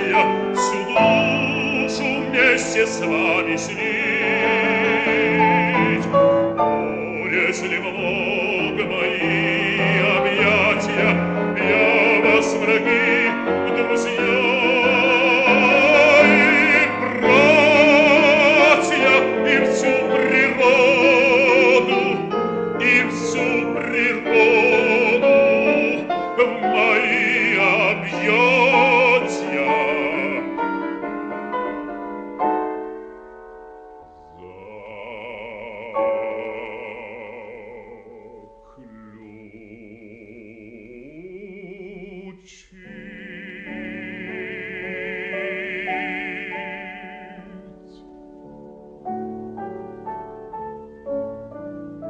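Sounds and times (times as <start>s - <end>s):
operatic bass voice singing: 0.0s - 30.6s, 34.3s - 48.2s
piano accompaniment: 0.0s - 52.0s.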